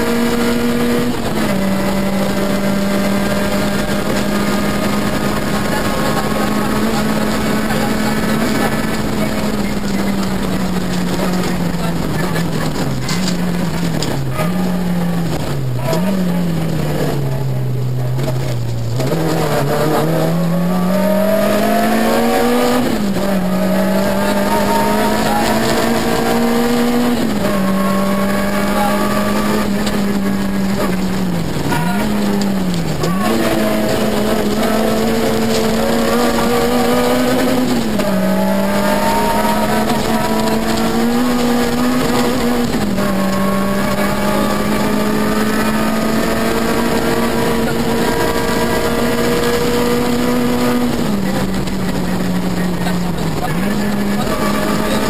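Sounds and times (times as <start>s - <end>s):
rally car engine revving: 0.0s - 55.0s
road noise: 0.0s - 55.0s.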